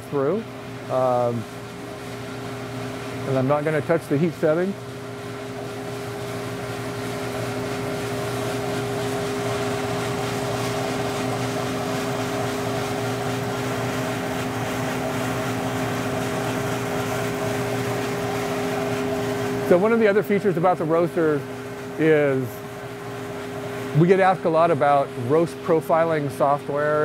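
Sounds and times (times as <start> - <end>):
coffee roaster blower hum: 0.0 - 27.0.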